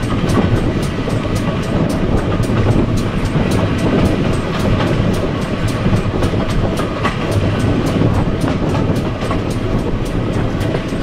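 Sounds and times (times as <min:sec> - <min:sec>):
steam engine sharp beats: 0:00.0 - 0:11.0
wheels rumbling on rails: 0:00.0 - 0:11.0
wind buffeting microphone: 0:00.0 - 0:11.0.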